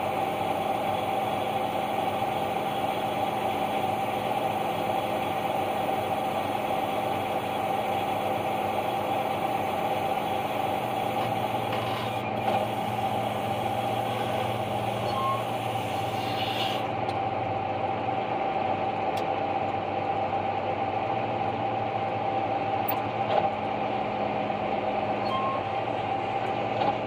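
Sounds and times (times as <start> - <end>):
diesel engines droning: 0.0 - 27.0
high machine whine: 0.0 - 27.0.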